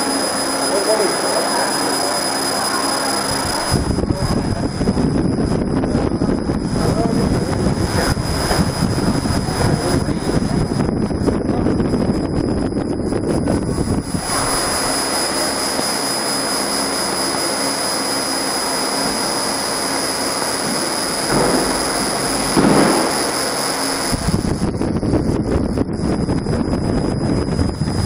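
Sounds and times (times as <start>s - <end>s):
faint high whine: 0.0s - 28.0s
laser engraver air rushing: 0.0s - 28.0s.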